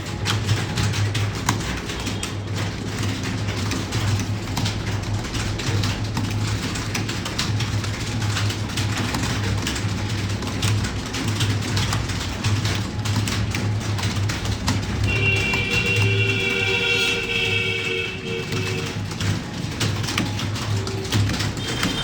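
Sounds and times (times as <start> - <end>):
keyboard typing: 0.0 - 22.0.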